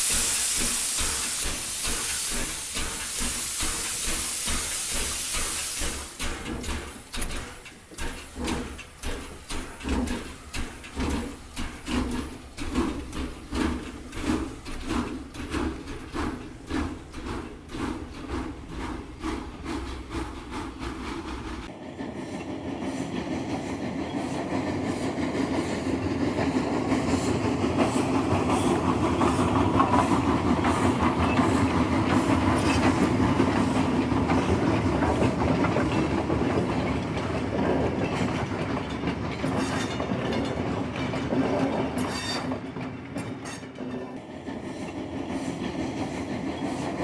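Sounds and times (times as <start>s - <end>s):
train wheels clicking on rails: 0.0s - 47.0s.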